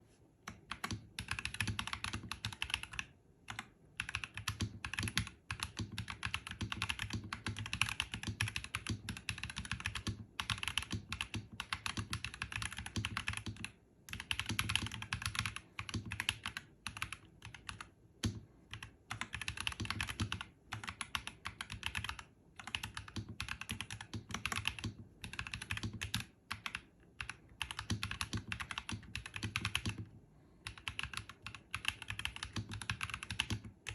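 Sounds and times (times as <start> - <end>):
fast mechanical keyboard typing: 0.5 - 33.9.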